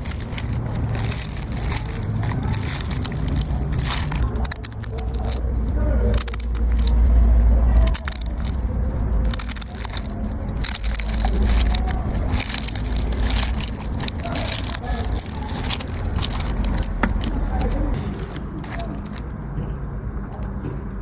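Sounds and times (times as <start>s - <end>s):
deep low rumble: 0.0s - 19.3s
crunching and crackling: 0.0s - 19.4s.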